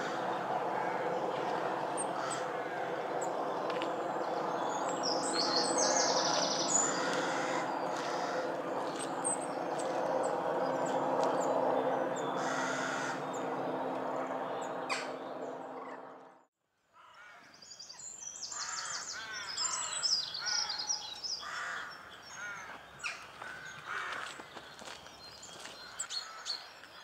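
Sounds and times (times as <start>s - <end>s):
birds calling harshly: 0.0s - 16.2s, 17.1s - 26.8s
songbirds chirping and trilling: 0.0s - 16.3s, 17.1s - 27.0s.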